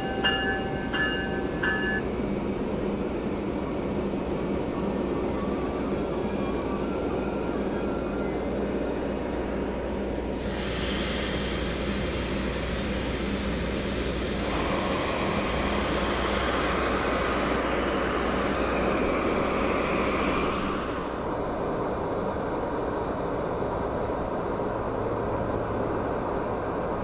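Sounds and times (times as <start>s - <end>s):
locomotive engine hum: 0.0s - 27.0s.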